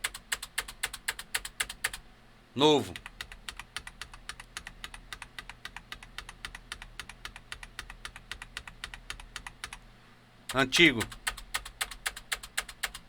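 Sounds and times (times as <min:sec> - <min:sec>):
mechanical keyboard typing: 0:00.0 - 0:02.0, 0:03.0 - 0:09.8, 0:10.5 - 0:13.0.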